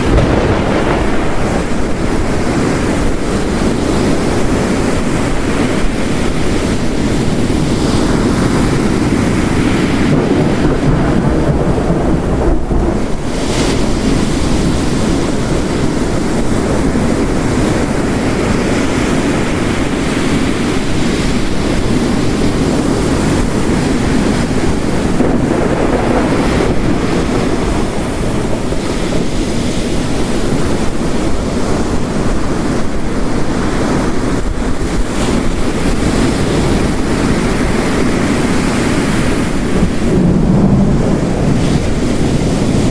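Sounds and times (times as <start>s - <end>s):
heavy rain: 0.0s - 42.9s
surf crashing on rocks: 0.0s - 42.9s.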